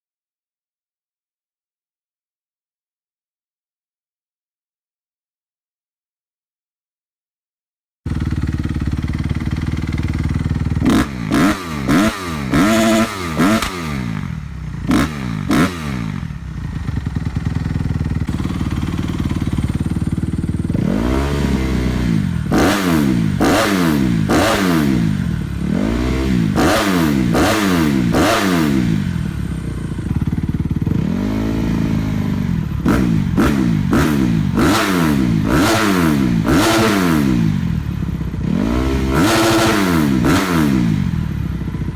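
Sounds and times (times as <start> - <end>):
motorcycle engine revving: 8.1 - 41.9.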